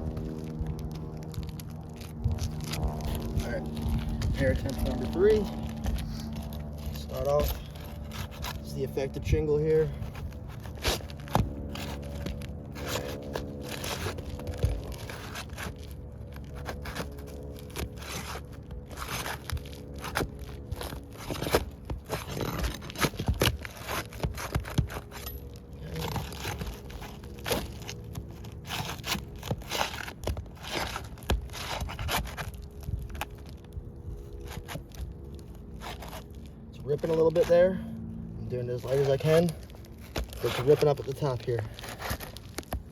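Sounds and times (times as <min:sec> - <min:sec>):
roof shingle scraping and tearing: 0:00.0 - 0:42.9.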